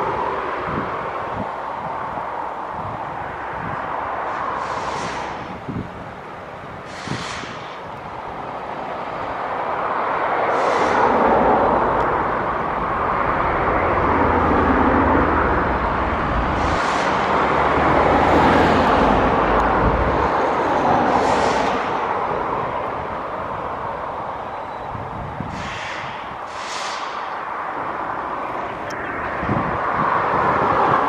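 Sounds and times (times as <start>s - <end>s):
jet engines rumble and hiss: 0.0s - 31.0s.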